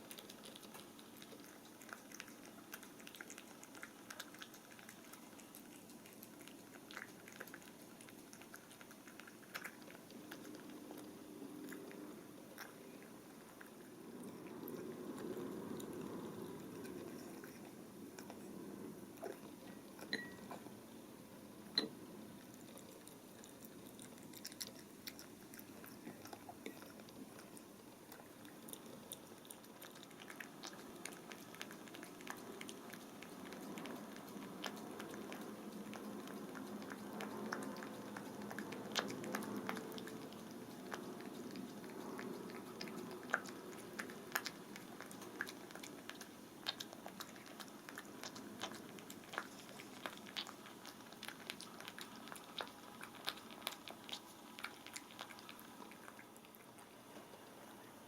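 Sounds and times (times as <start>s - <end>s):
cat chewing and licking: 0.0s - 58.0s.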